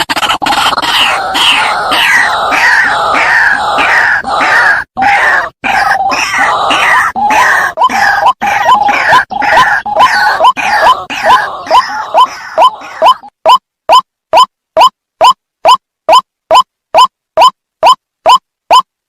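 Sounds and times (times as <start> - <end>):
bird harsh croaking calls: 0.2 - 16.2.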